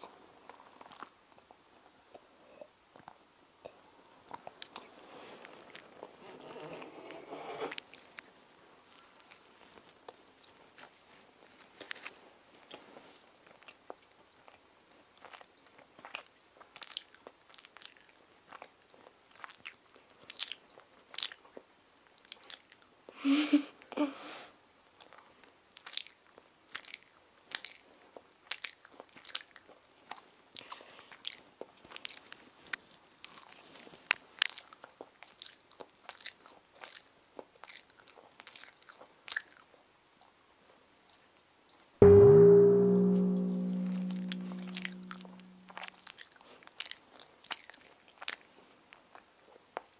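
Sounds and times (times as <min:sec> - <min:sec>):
child chewing sandwich: 0:00.0 - 0:23.2, 0:23.8 - 0:41.9, 0:46.2 - 0:49.9.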